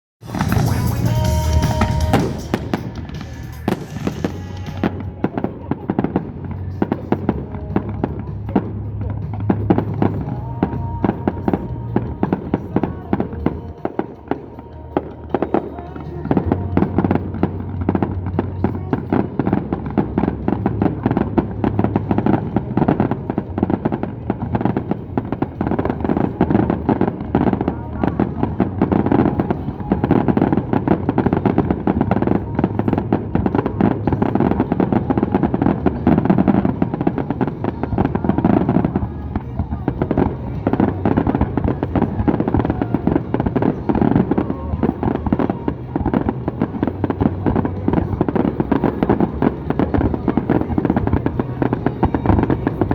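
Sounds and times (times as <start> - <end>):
fireworks bangs and crackle: 0.2 - 52.9
music playing: 0.2 - 52.9.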